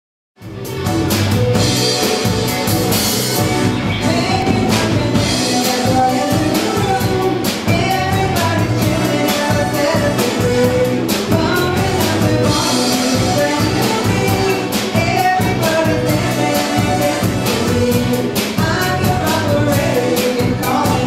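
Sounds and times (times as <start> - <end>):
drum kit with cymbals: 0.4 - 21.0
electric guitar: 0.4 - 21.0
person singing lead vocals: 3.8 - 21.0.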